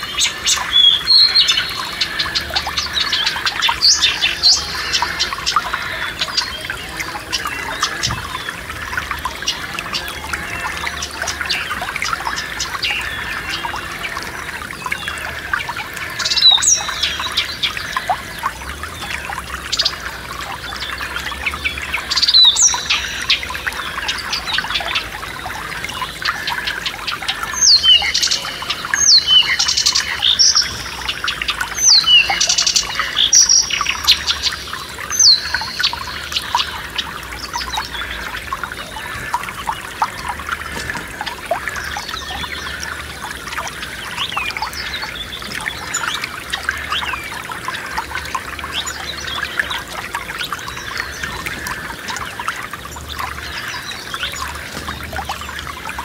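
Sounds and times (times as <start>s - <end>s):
songbirds calling: 0.0s - 56.0s
stream babbling: 0.0s - 56.0s.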